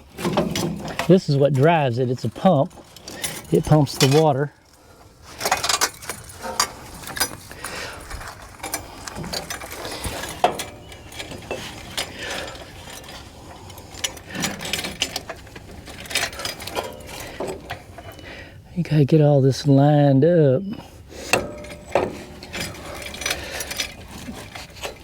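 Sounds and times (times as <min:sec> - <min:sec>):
metal clicks clanks and rattles: 0:00.0 - 0:18.2, 0:21.2 - 0:25.0.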